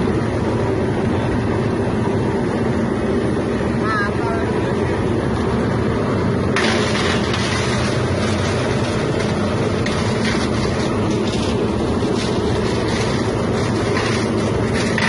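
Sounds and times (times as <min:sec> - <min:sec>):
machine motor drone: 0:00.0 - 0:15.0.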